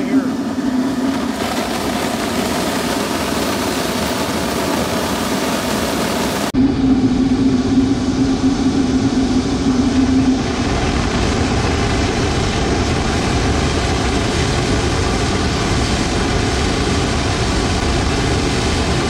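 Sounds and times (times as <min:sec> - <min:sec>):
low steady hum: 0:00.0 - 0:19.0
oil burner roaring: 0:00.0 - 0:19.0.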